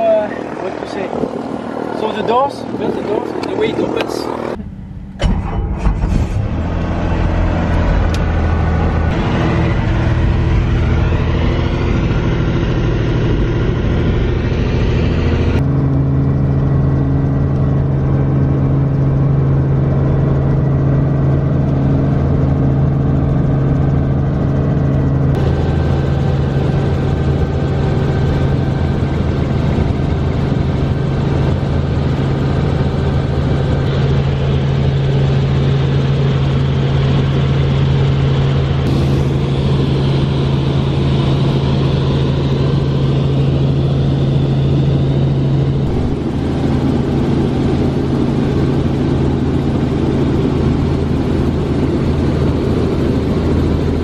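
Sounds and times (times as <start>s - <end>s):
helicopter engine and rotor: 0.0s - 5.4s, 6.6s - 54.0s
deeper steady hum: 1.4s - 54.0s.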